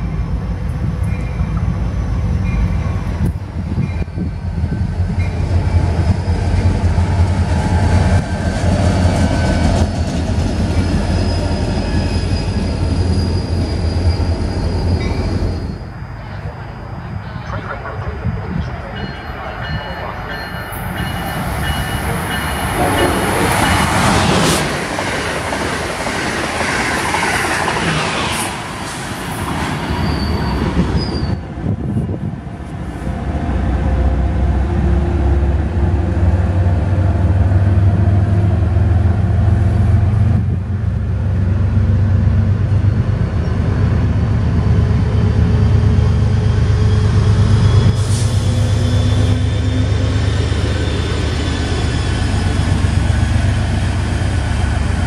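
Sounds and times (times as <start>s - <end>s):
commuter train rolling by: 0.0s - 55.0s
diesel locomotive rumble: 0.0s - 55.0s
high-speed electric train rushing past: 0.0s - 55.0s.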